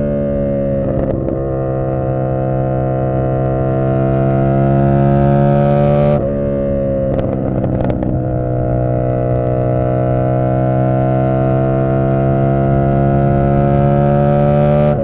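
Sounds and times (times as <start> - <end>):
motorcycle engine and exhaust: 0.0 - 15.0.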